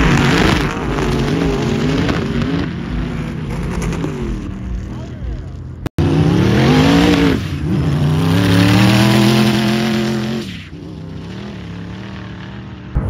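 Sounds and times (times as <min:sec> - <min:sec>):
sand car engine revving: 0:00.0 - 0:13.0.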